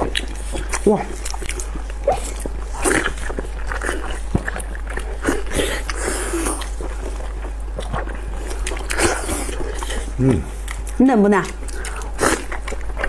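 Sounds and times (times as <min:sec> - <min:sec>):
people chewing wetly: 0:00.0 - 0:13.0.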